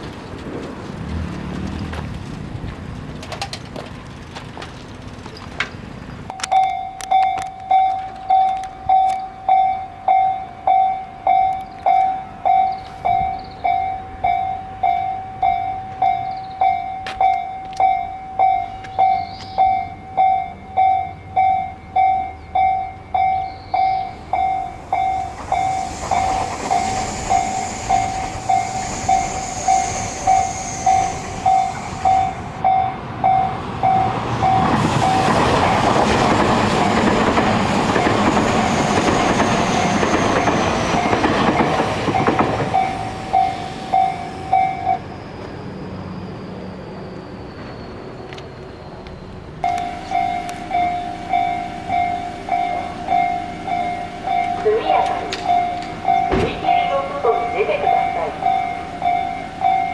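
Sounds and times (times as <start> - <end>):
passing train: 0.0 - 59.9
level-crossing warning bell: 6.3 - 47.4, 48.3 - 59.9.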